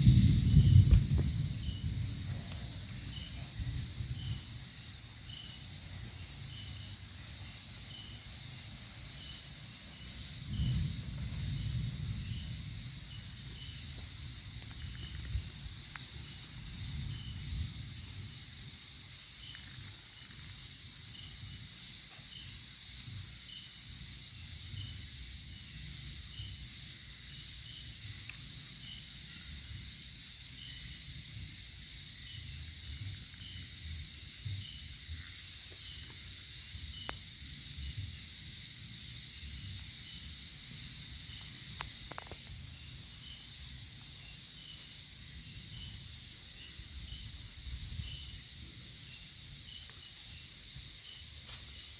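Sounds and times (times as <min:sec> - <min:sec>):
wind rumble on microphone: 0:00.0 - 0:22.0, 0:28.0 - 0:51.9
high insect drone: 0:00.0 - 0:51.9.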